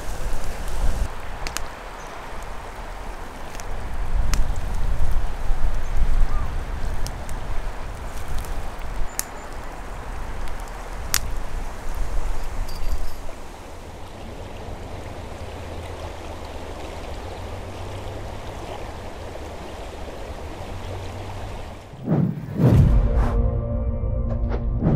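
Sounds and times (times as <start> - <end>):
rushing outdoor background noise: 0.0 - 22.7.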